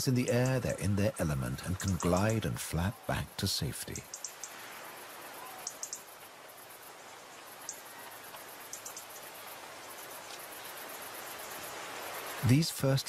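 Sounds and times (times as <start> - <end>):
soft outdoor hiss: 0.0 - 13.0.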